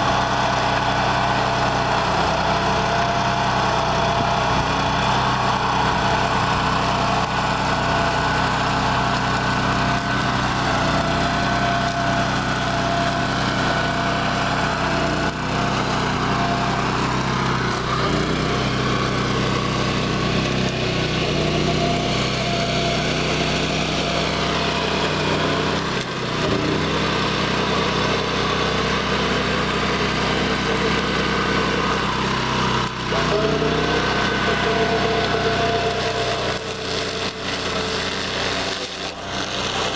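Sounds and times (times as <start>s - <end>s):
flail mower chopping stalks: 0.0s - 39.9s
gas engine running under load: 0.0s - 39.9s.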